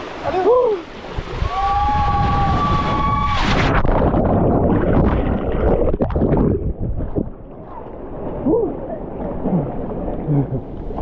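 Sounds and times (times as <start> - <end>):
churning rushing water: 0.0 - 11.0.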